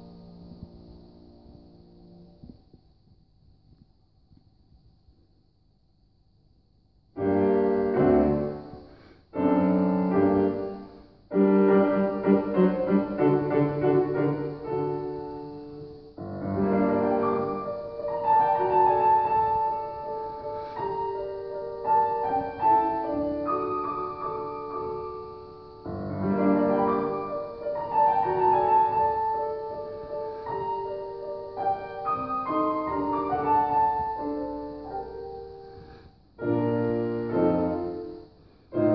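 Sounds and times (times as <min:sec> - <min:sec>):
grand piano playing: 0:07.2 - 0:38.9.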